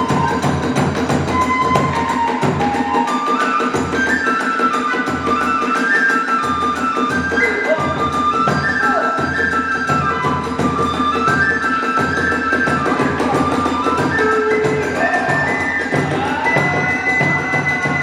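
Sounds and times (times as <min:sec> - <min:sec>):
bamboo flute melody: 0:00.0 - 0:18.0
fast steady drumming: 0:00.0 - 0:18.0
hand cymbals: 0:00.0 - 0:18.0.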